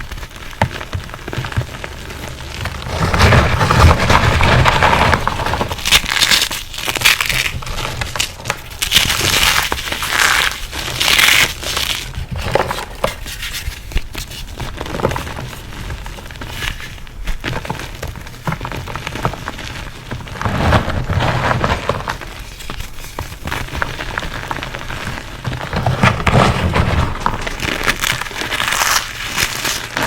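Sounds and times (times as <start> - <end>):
chalk being crushed and crunching: 0.0 - 30.0.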